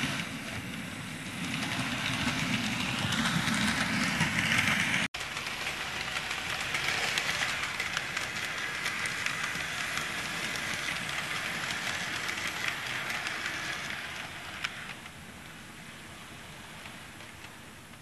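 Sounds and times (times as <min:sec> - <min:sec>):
light clicks of train on track: 0:00.0 - 0:18.0
model train whirring: 0:00.0 - 0:18.0.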